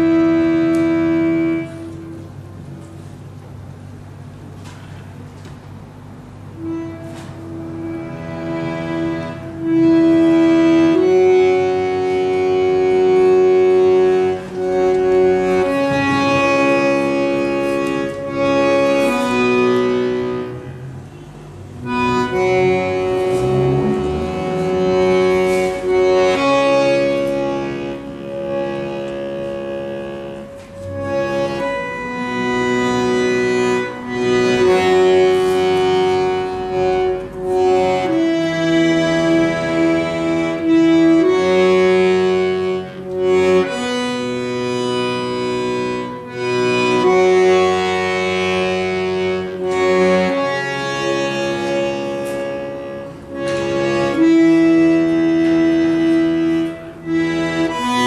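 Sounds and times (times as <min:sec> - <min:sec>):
accordion playing held chords: 0:00.0 - 0:58.0.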